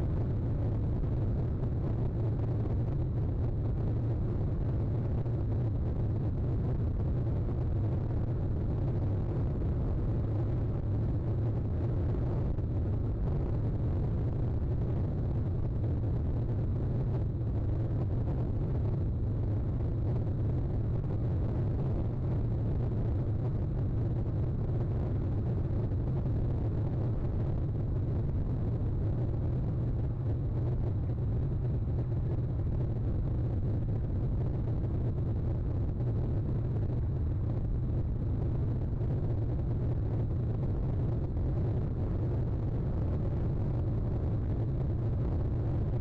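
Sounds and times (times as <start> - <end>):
steady low rumble: 0.0 - 46.0.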